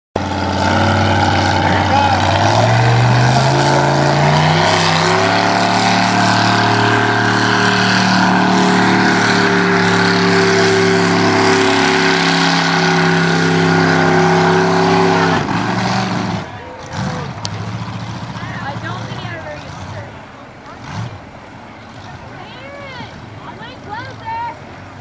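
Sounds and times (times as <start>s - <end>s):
tractor engine at full power: 0.2s - 25.0s.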